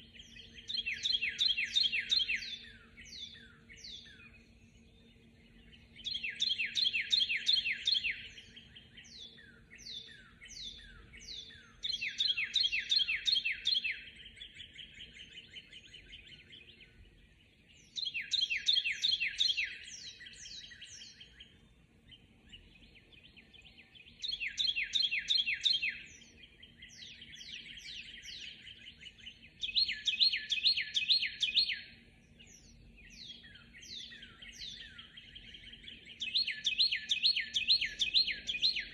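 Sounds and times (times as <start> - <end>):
loud bird song phrase: 0.0 - 38.9.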